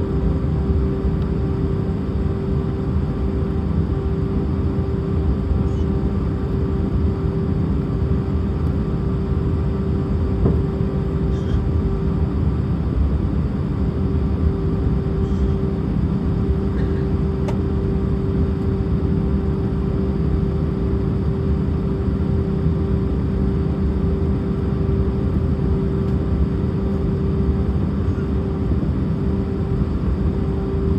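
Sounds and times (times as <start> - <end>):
airliner cabin engine drone: 0.0 - 30.9.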